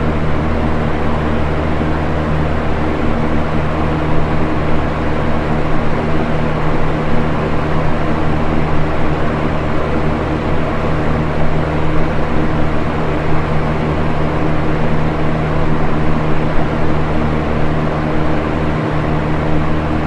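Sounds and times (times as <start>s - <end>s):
box fan running: 0.0s - 20.0s.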